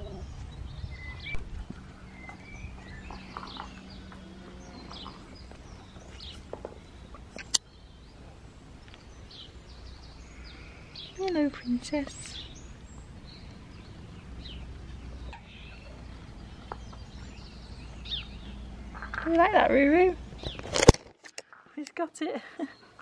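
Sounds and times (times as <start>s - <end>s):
bird chirps and twitters: 0.0s - 8.2s, 8.8s - 20.7s
low background rumble: 0.0s - 20.5s.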